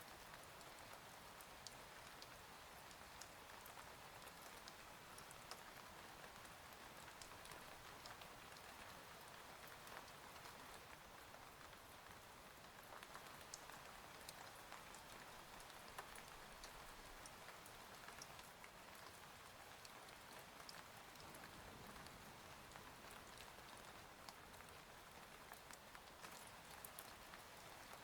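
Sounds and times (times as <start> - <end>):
faint steady rain: 0.0 - 28.0.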